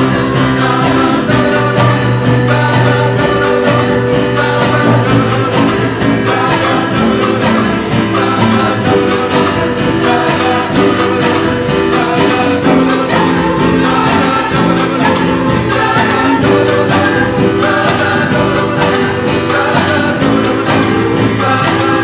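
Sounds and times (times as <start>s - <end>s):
guitar accompaniment: 0.0s - 22.0s
large choir singing: 0.0s - 22.0s
steady drum beat: 0.0s - 22.0s.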